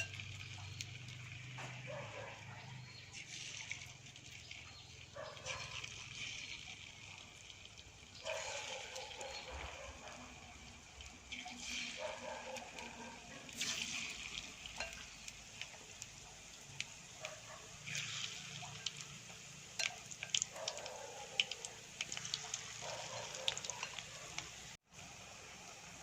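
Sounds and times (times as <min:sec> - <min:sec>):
deep-frying sizzle: 0:00.0 - 0:26.0
oil crackling and popping: 0:00.0 - 0:26.0.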